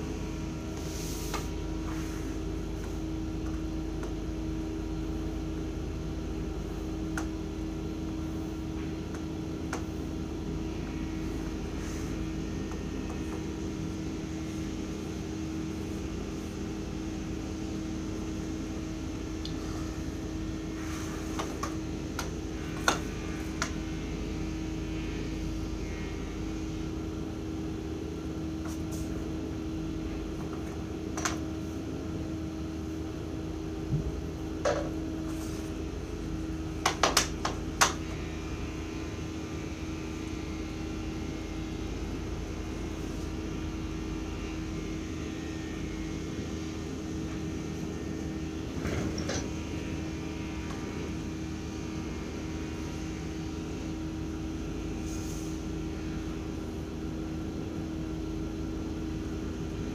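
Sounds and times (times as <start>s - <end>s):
air conditioner humming: 0.0s - 59.9s.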